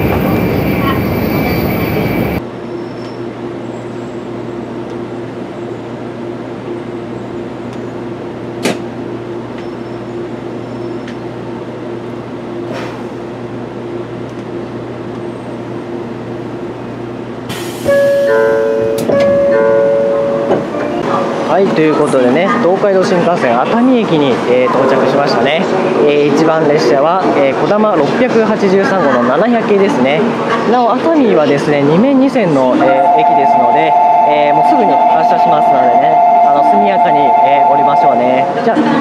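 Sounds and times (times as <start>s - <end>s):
train hum and whine: 0.0s - 39.0s
train interior rush: 0.0s - 39.0s.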